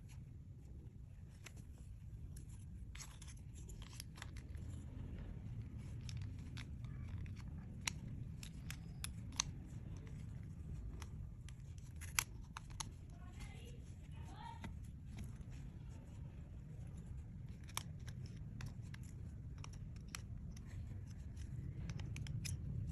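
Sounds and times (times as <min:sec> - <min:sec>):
low steady rumble: 0:00.0 - 0:22.9.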